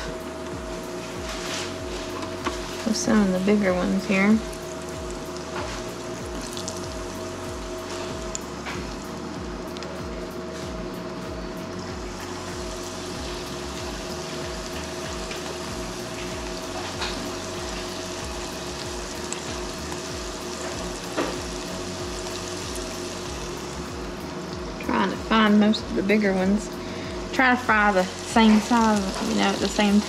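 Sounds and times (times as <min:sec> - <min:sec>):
food sizzling in hot oil: 0:00.0 - 0:30.0
soft background music: 0:00.0 - 0:30.0.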